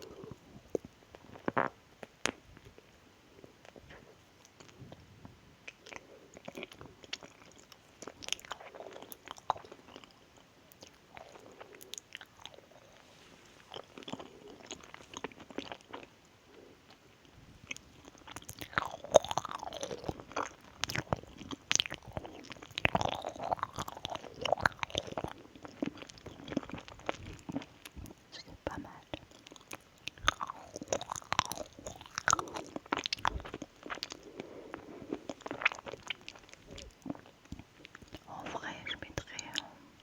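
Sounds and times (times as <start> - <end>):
chewing mouth sounds: 5.6 - 39.8.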